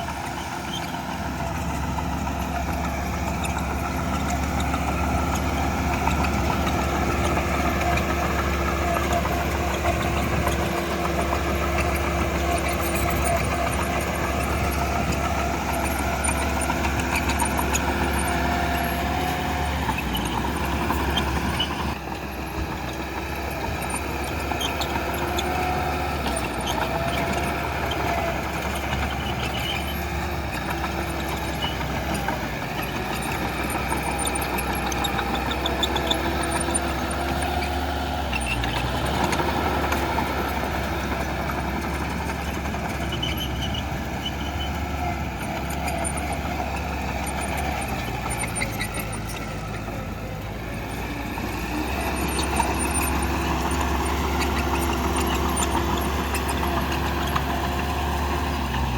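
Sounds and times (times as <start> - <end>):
heavy machinery diesel engine: 0.0 - 58.9
short squeaking tones: 0.0 - 58.9.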